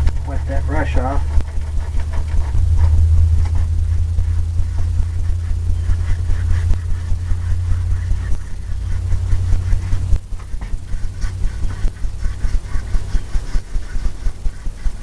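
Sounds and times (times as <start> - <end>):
paint brush strokes on canvas: 0.0 - 15.0
steady low hum: 0.0 - 15.0.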